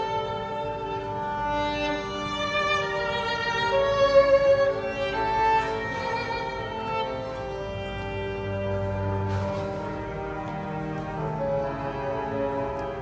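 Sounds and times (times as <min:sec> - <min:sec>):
instrumental music: 0:00.0 - 0:13.0.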